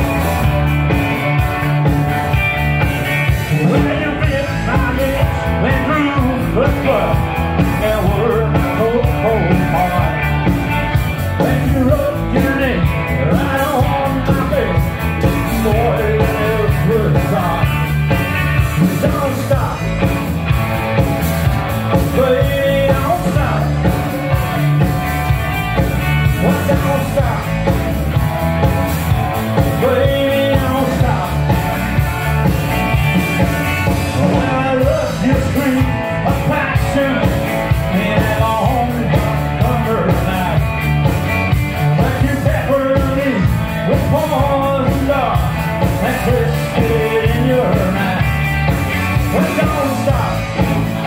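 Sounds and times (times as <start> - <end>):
drum beat: 0.0 - 51.0
electric guitars: 0.0 - 51.0.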